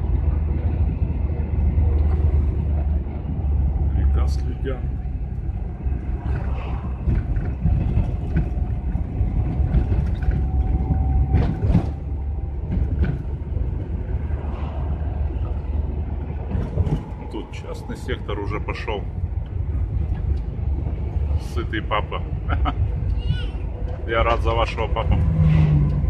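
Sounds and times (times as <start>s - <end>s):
low engine and road rumble: 0.0s - 26.0s.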